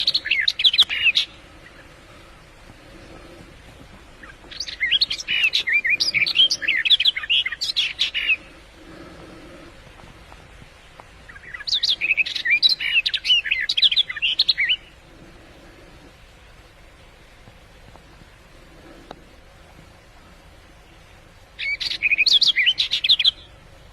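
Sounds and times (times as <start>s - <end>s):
songbird chirps and trills: 0.0s - 23.9s.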